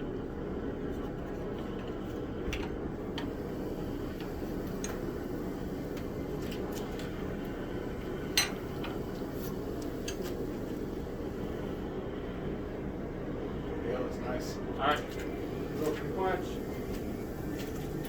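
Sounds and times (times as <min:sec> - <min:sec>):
forge running: 0:00.0 - 0:18.0.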